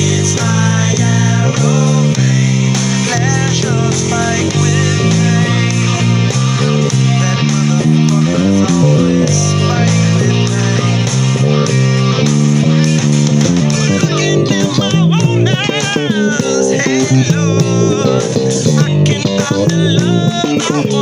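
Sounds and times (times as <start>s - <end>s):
bass guitar: 0.0s - 21.0s
electric guitar: 0.0s - 21.0s
steady drum beat: 0.0s - 21.0s.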